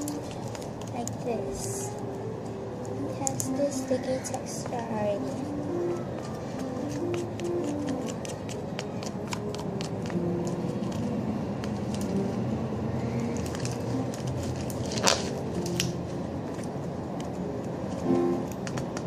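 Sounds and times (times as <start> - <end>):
slime squishing: 3.0 - 12.4, 13.0 - 19.0.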